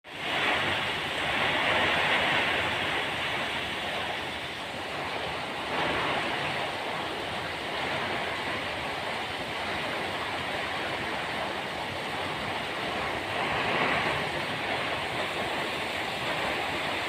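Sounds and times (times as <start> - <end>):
heavy rain in strong wind: 0.0 - 17.0.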